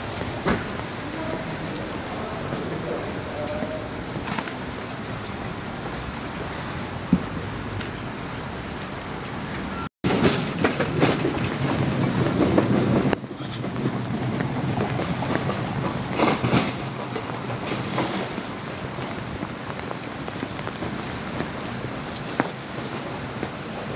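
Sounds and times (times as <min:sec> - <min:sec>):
rain on wet pavement: 0:00.0 - 0:23.9
vehicle passing on wet road: 0:00.0 - 0:23.9.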